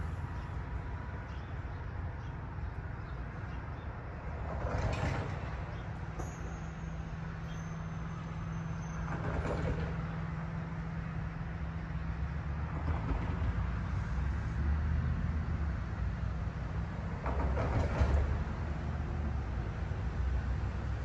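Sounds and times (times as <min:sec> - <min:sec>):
vehicle engines rumbling: 0:00.0 - 0:21.0.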